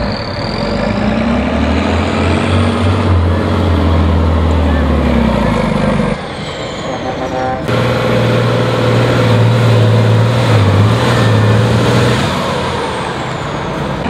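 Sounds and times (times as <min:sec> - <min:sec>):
diesel truck engine straining: 0:00.0 - 0:14.0.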